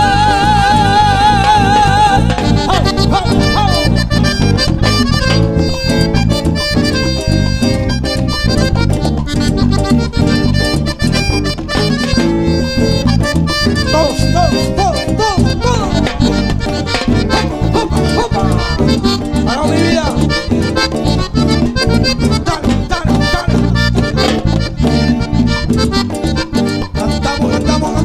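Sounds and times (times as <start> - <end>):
accordion-like lead melody: 0.0 - 28.0
latin dance band playing: 0.0 - 28.0.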